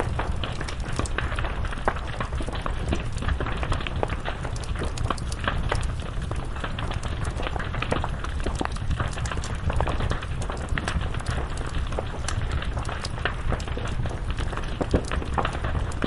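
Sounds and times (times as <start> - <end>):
burning wood crackling and popping: 0.0 - 16.0
flames rumbling: 0.0 - 16.0.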